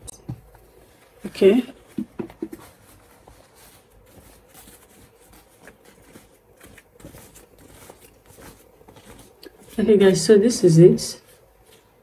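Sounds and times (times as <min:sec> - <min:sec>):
fabric rustling: 0:00.4 - 0:12.0.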